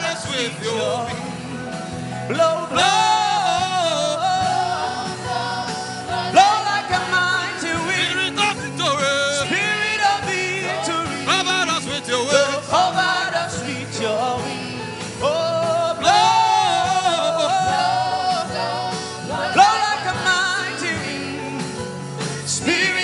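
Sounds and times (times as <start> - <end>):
gospel singing with band: 0.0 - 23.0.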